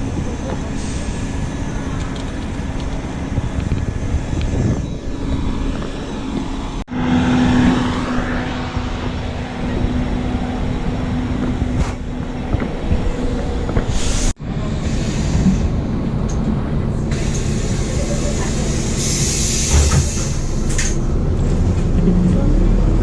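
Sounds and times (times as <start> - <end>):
engine hum: 0.0 - 23.0
road rumble: 0.0 - 23.0.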